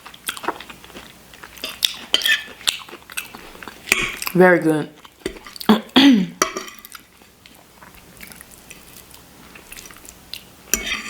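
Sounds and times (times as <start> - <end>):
chewing soft food: 0.0 - 4.4, 5.0 - 5.7, 6.8 - 10.6.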